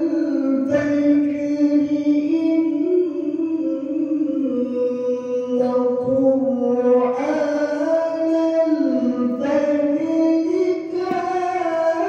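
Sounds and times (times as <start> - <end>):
man reciting melodiously: 0.0 - 12.0.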